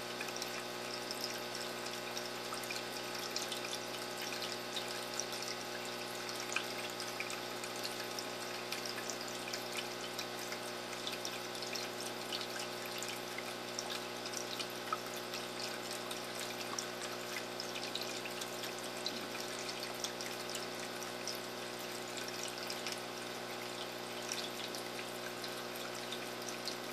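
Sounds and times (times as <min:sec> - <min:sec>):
pump motor hum: 0:00.0 - 0:26.9
water trickling and splashing: 0:00.0 - 0:26.9.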